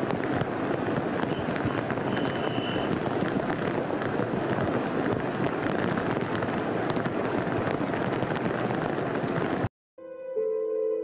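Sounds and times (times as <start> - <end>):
faint crackles: 0.0 - 9.7
heavy rain: 0.0 - 9.7.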